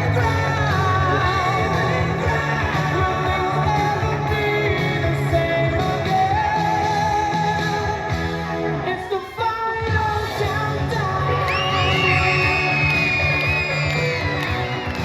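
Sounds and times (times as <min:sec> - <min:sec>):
steady bass line: 0:00.0 - 0:09.0, 0:10.0 - 0:15.0
person singing: 0:00.0 - 0:15.0.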